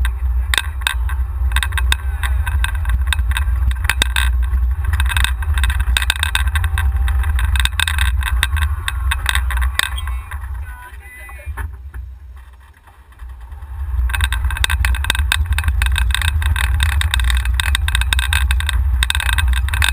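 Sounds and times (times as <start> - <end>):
low rumble of wind and motion: 0.0 - 19.9
rattles and clicks from cart: 0.0 - 19.9.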